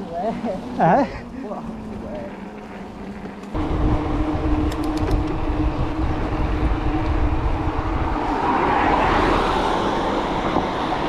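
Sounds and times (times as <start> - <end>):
motor vehicle passing: 0.0 - 11.0
wind rumbling on microphone: 1.6 - 11.0.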